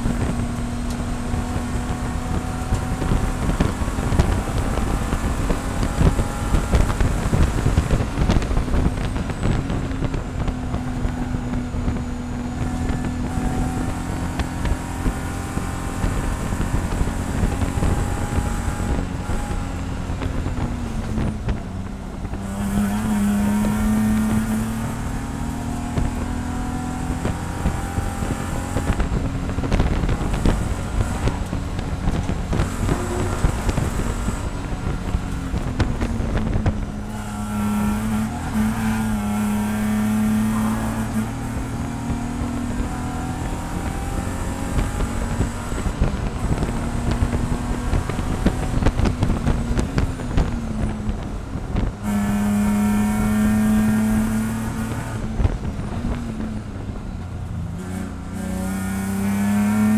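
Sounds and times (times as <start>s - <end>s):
race car engine running hard: 0.0s - 59.9s
wind and road noise: 0.0s - 59.9s.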